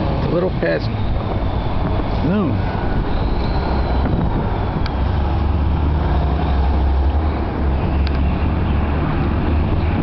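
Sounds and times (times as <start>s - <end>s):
low rumble of street traffic: 0.0s - 10.0s.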